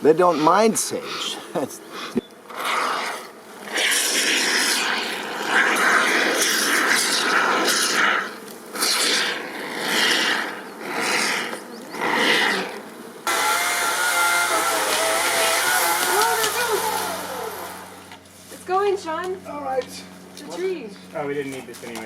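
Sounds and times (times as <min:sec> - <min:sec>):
bellows puffing bursts: 0:00.0 - 0:18.4.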